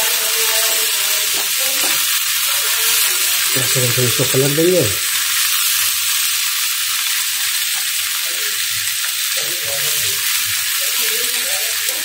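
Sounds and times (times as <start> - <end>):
fish sizzling in a pan: 0.0 - 12.0
spatula turning food in pan: 0.0 - 12.0.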